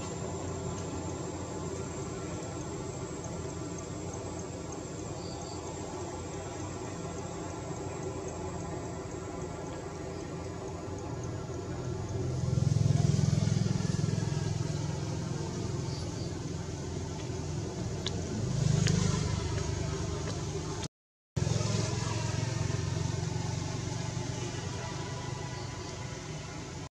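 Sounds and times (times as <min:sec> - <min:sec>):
vehicles passing rumble: 0:00.0 - 0:26.9.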